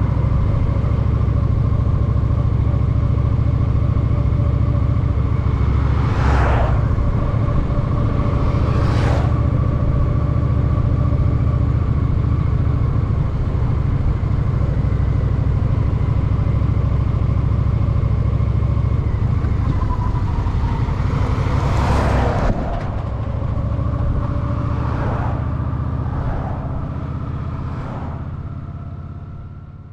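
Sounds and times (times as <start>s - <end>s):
motorcycle engine running: 0.0s - 21.9s, 22.6s - 29.9s.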